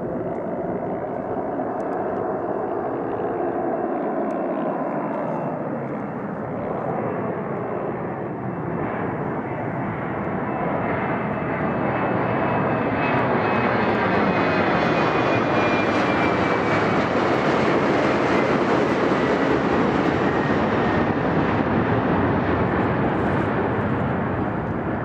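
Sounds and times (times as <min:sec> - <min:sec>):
jet airliner roar overhead: 0:00.0 - 0:25.0.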